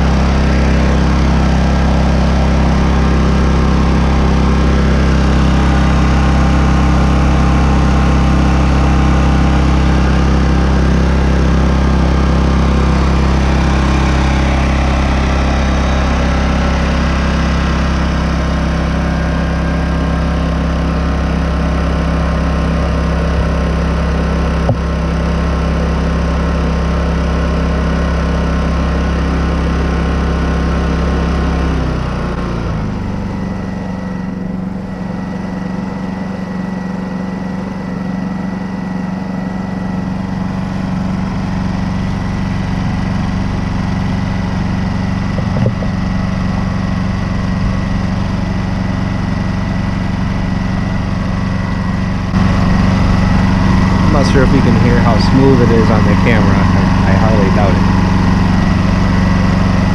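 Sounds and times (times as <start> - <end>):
generator engine running: 0.0 - 59.9.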